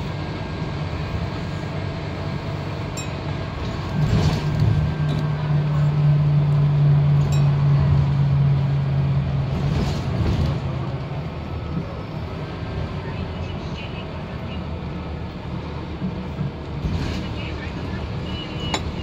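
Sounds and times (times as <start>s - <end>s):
bus engine drone: 0.0s - 19.0s
road rumble: 0.0s - 19.0s.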